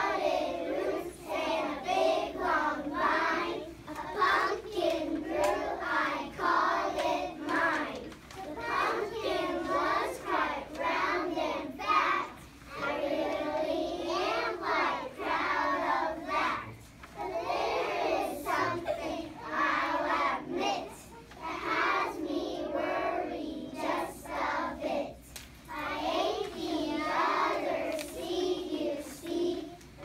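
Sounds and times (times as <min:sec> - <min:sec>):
children singing in unison: 0:00.0 - 0:29.8.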